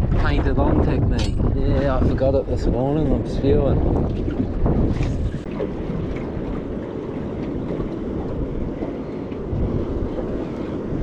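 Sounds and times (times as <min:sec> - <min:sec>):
choppy sea water: 0:00.0 - 0:11.0
wind buffeting microphone: 0:00.0 - 0:11.0.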